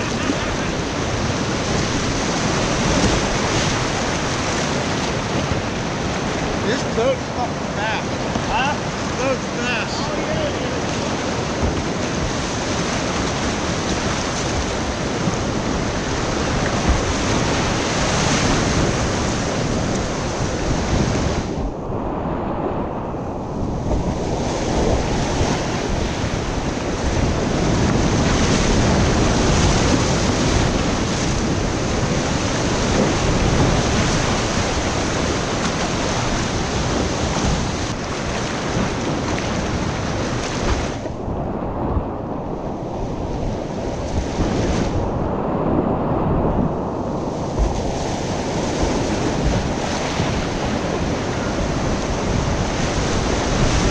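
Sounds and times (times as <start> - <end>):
whitewater rapids rushing: 0.0 - 21.5, 24.2 - 41.0, 47.2 - 53.9.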